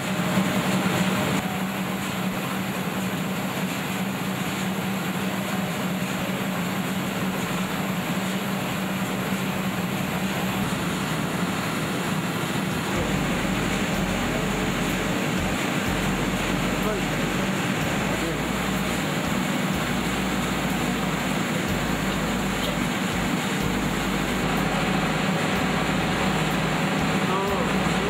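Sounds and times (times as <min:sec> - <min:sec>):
machinery hum and hiss: 0:00.0 - 0:28.0.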